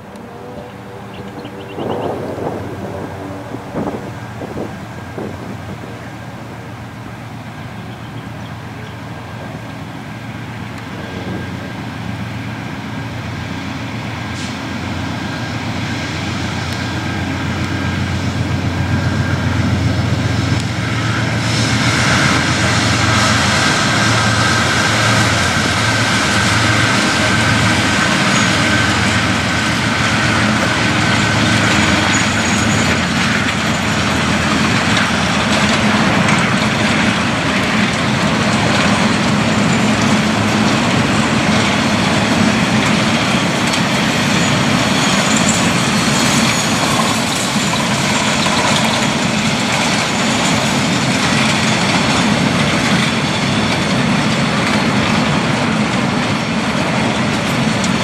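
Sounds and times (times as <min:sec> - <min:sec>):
hopper wagons rolling rumble: 0:00.0 - 0:58.0
locomotive high whine: 0:00.0 - 0:58.0.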